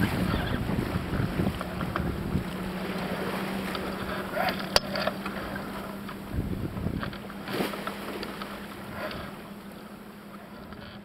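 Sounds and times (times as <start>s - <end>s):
wind on microphone: 0.0s - 9.5s
knocks and thuds on boat: 0.0s - 11.0s
low steady hum: 0.0s - 11.0s
water rushing along hull: 0.0s - 11.0s.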